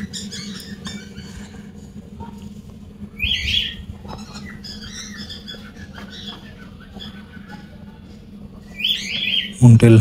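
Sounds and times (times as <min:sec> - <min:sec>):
bird chirps: 0:00.0 - 0:01.6, 0:03.1 - 0:09.6
bird squawking: 0:00.0 - 0:09.6.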